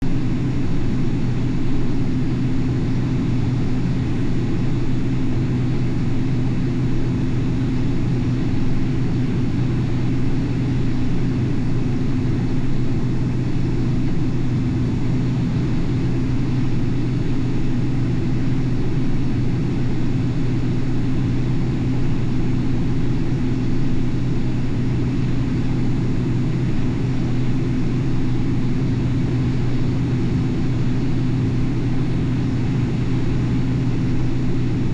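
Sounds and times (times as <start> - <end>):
combine harvester engine drone: 0.0 - 34.9.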